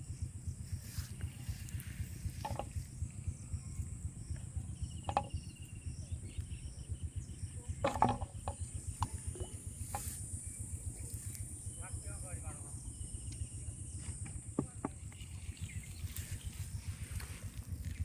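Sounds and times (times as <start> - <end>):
insects buzzing: 0.0 - 18.0
low rumble: 0.0 - 18.0.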